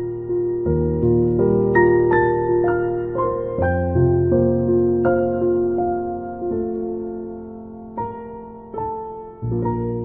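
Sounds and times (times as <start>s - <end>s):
soft piano notes: 0.0s - 10.0s.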